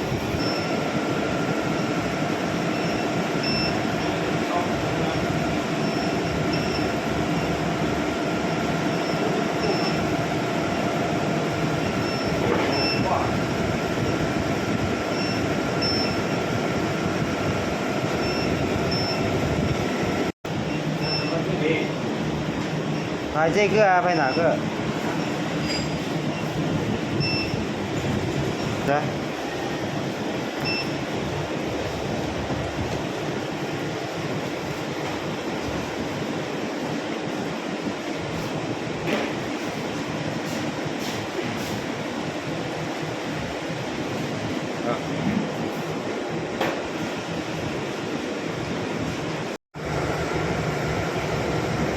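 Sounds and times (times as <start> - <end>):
induction furnace mechanical rush: 0.0 - 51.9.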